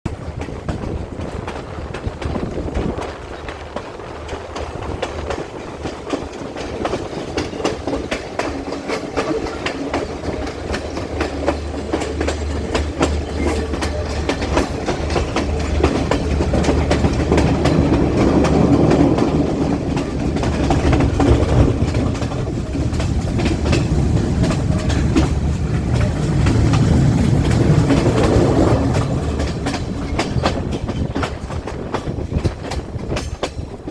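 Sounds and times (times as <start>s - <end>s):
train low hum: 0.0s - 33.9s
train wheels clattering over rails: 0.1s - 33.9s.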